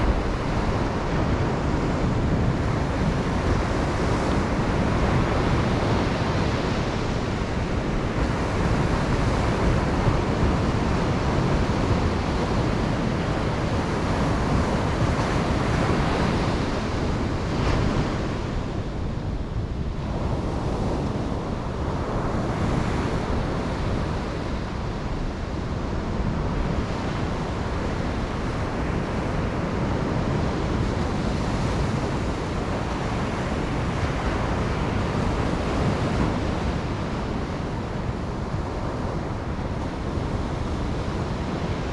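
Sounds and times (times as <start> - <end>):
waves breaking on beach: 0.0 - 41.9
wind on microphone: 0.0 - 41.9.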